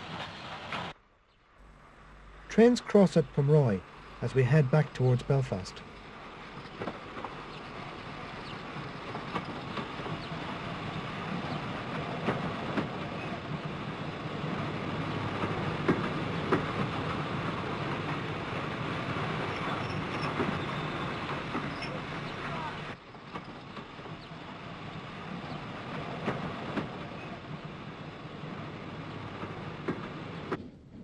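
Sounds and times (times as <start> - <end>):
steam train rumble: 0.0 - 1.0, 1.6 - 31.0.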